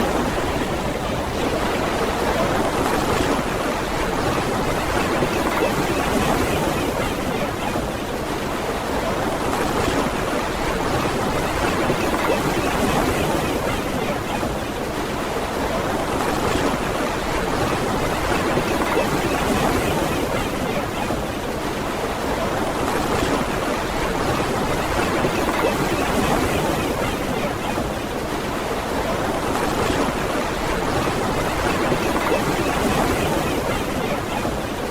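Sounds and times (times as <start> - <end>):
ocean waves washing onto beach: 0.0 - 34.9.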